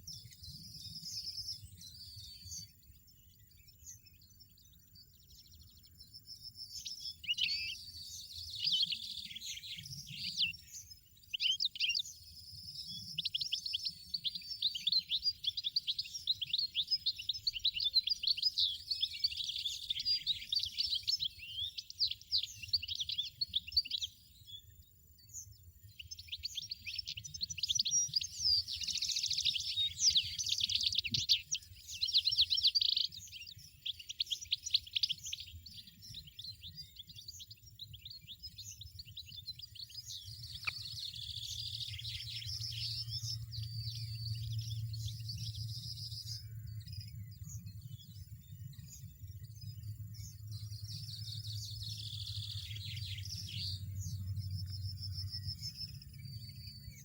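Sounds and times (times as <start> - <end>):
goldfinch twittering song: 0.0 - 57.0.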